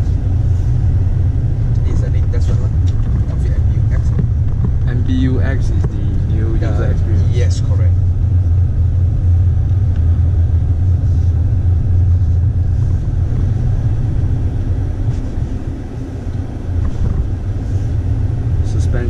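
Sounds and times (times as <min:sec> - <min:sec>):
car cabin engine and road drone: 0:00.0 - 0:19.0.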